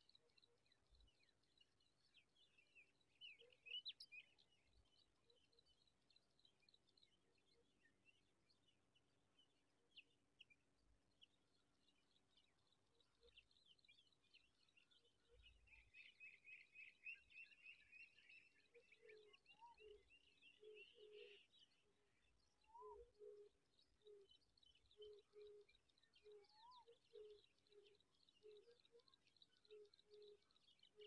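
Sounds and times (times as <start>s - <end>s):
birds twittering and chirping: 0.0s - 31.0s.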